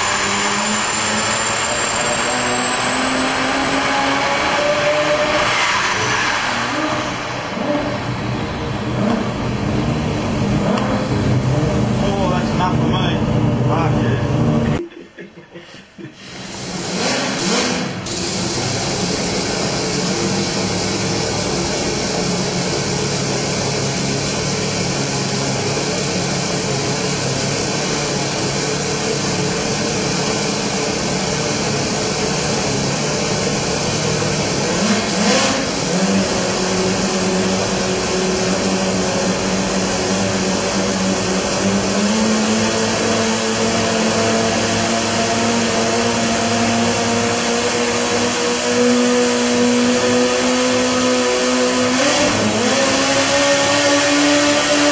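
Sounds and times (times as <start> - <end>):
rotary engine revving: 0.0 - 14.8, 16.2 - 54.9.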